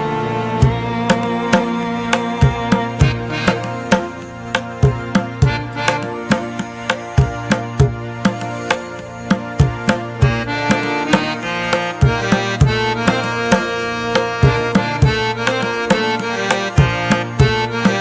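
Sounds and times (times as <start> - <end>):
sustained melodic instrument: 0.0 - 18.0
hand-drum beat: 0.6 - 18.0.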